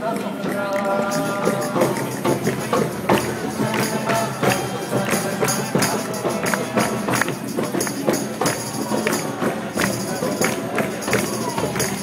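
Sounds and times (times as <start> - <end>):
people clapping along: 0.0 - 12.0.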